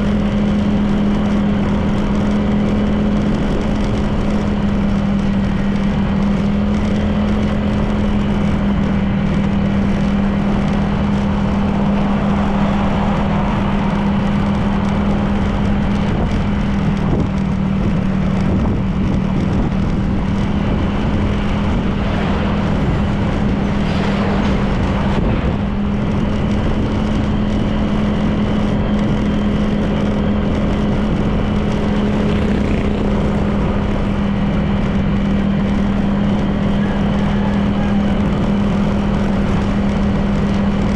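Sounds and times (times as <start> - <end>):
road and wind noise: 0.0 - 40.9
scooter engine humming: 0.0 - 40.9.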